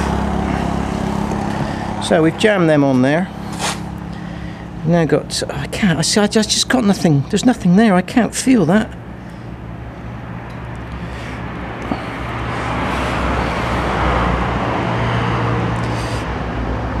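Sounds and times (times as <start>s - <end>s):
vehicle passing by: 0.0s - 7.5s, 8.5s - 17.0s.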